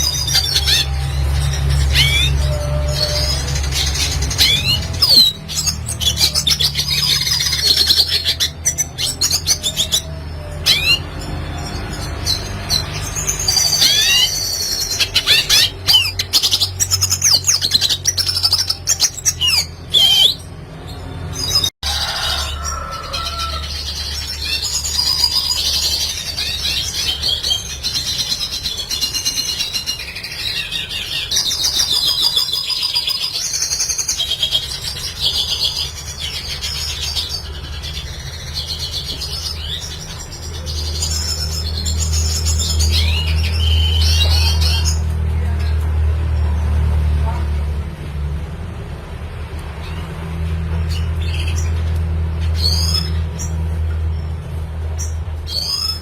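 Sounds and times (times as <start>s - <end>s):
bird singing: 0.0s - 45.8s, 49.8s - 54.4s, 55.0s - 56.0s.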